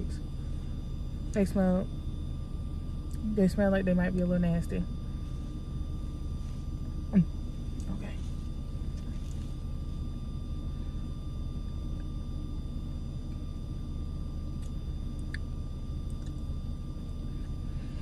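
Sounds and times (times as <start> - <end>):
faint high whine: 0.0 - 18.0
low hum inside car cabin: 0.0 - 18.0.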